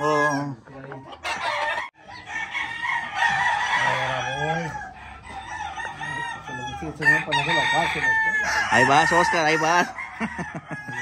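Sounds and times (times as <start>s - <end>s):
chickens clucking: 0.0s - 11.0s
roosters crowing: 0.0s - 11.0s.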